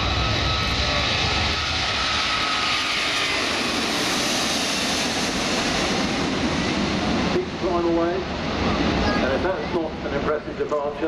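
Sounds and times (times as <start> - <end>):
faint jet whine: 0.0 - 11.0
jet airliner roar: 0.0 - 11.0.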